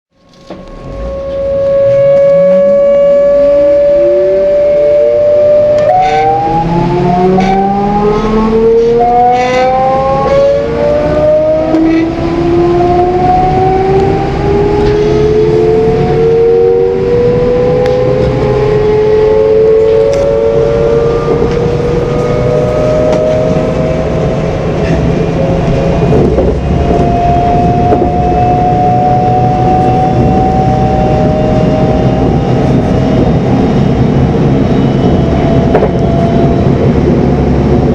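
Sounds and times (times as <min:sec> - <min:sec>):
train running rumble: 0:00.1 - 0:37.9
electric train motors whining: 0:00.2 - 0:37.9.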